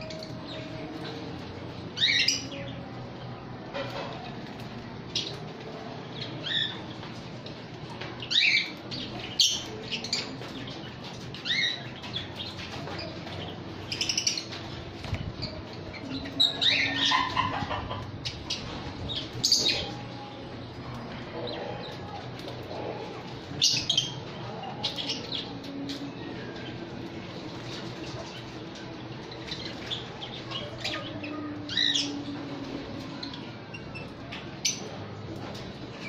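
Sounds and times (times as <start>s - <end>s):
parakeets chirping and calling: 0.0s - 36.0s.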